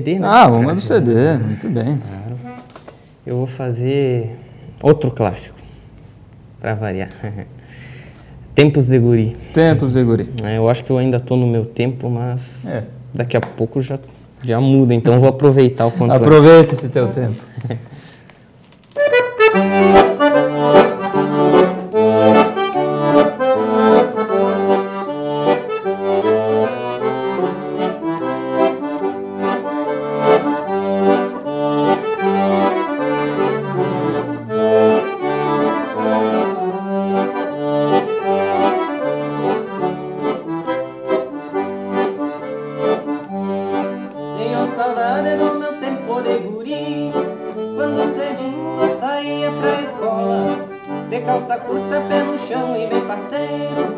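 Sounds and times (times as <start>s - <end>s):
accordion playing folk melody: 0.0s - 6.3s, 7.1s - 12.7s, 13.9s - 53.9s.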